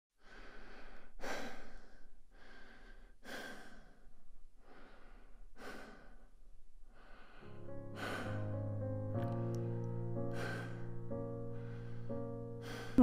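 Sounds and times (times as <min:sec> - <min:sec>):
person breathing slowly: 0:00.2 - 0:13.0.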